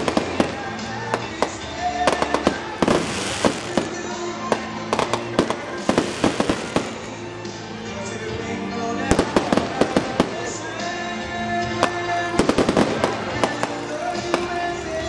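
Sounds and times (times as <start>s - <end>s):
fireworks bangs and crackles: 0.0s - 7.6s, 9.1s - 15.0s
music playing: 0.0s - 15.0s.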